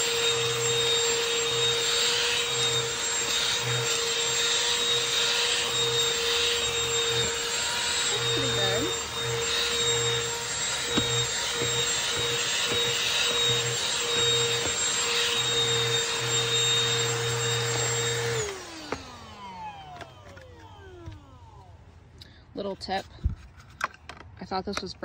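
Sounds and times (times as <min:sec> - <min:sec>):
handheld vacuum motor whine: 0:00.0 - 0:22.0.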